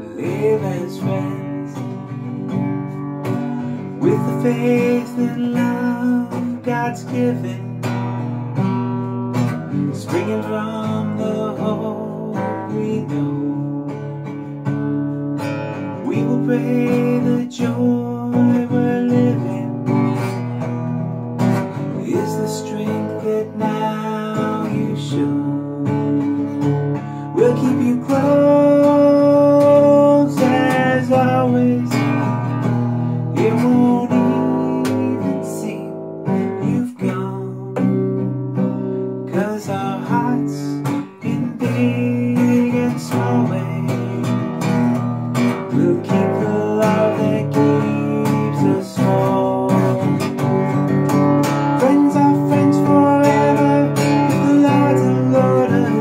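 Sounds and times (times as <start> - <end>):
man singing: 0.0 - 8.6, 9.3 - 56.0
acoustic guitar: 0.0 - 56.0.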